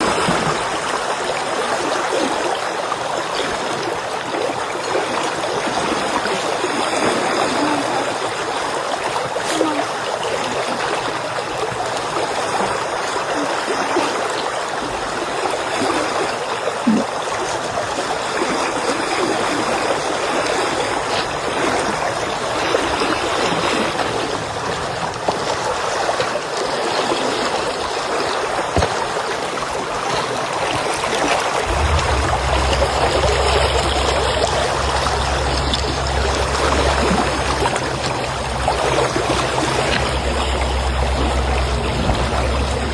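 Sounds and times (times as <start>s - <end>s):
stream flowing: 0.0s - 42.9s.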